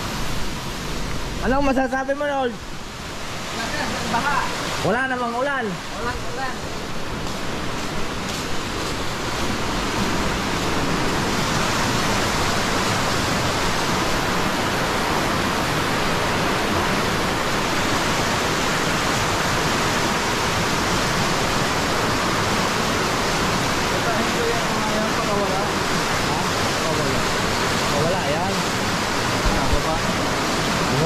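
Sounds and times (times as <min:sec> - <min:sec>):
floodwater rushing down creek: 0:00.0 - 0:31.0.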